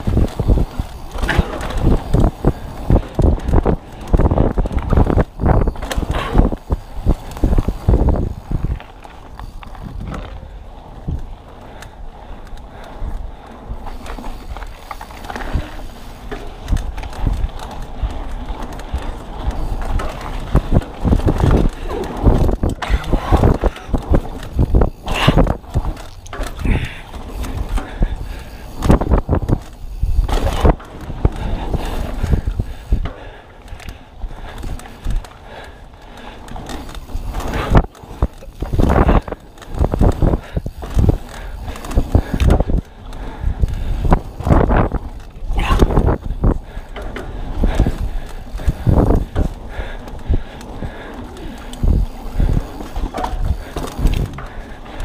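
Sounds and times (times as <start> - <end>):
bike parts rattling and knocking: 0.0 - 55.0
tyres rumbling on rough trail: 0.0 - 55.0
wind on microphone: 0.0 - 55.0.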